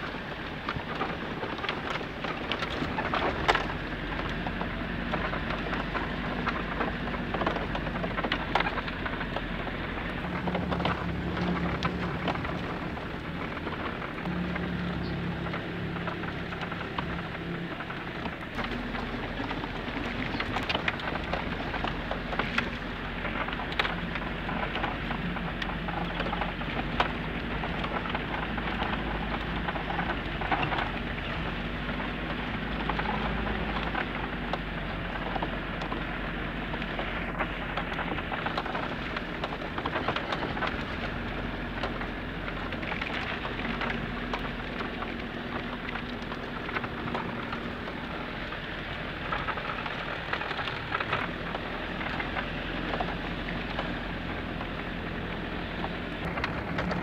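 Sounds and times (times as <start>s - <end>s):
crackles and rattles: 0.0s - 57.0s
low engine drone: 0.0s - 57.0s
road and wind noise: 0.0s - 57.0s.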